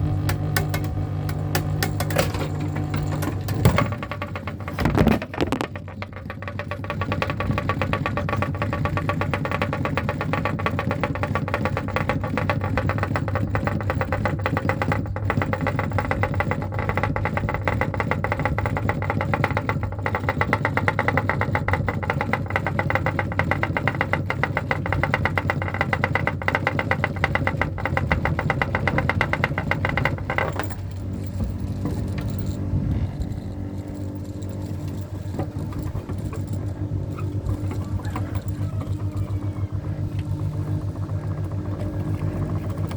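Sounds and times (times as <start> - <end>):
ceiling fan humming and fluttering: 0.0 - 42.9.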